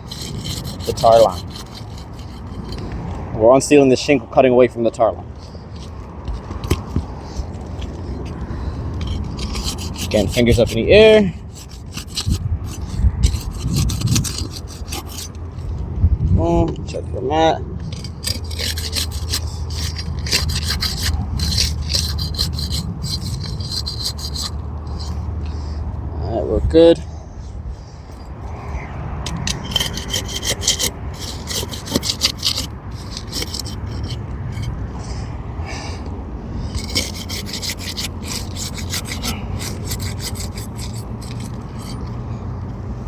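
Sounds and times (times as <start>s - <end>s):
metal bar scraping shingle: 0.0s - 4.1s, 4.8s - 17.0s, 17.8s - 25.8s, 29.2s - 35.3s, 36.5s - 42.4s.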